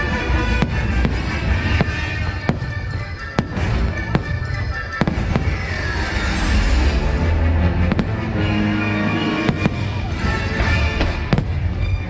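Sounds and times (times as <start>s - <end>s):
show music: 0.0s - 12.0s.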